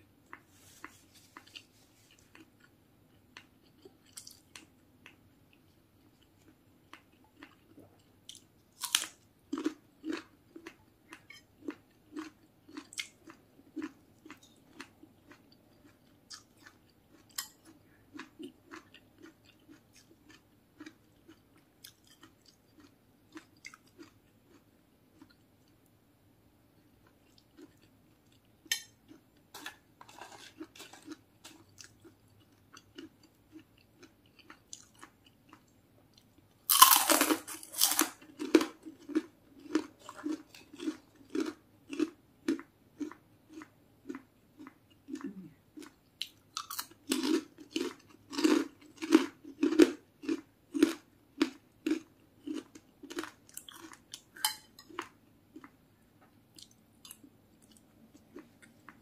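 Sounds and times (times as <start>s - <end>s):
person chewing crunchy food: 0.2s - 25.8s, 27.0s - 59.0s.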